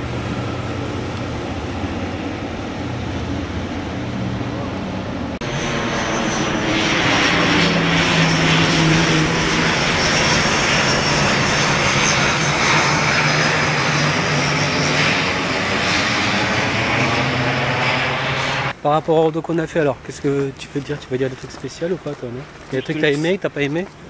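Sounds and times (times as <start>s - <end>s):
high engine whine: 0.0s - 18.8s, 21.4s - 24.0s
turboprop plane droning overhead: 0.0s - 18.8s, 19.9s - 24.0s.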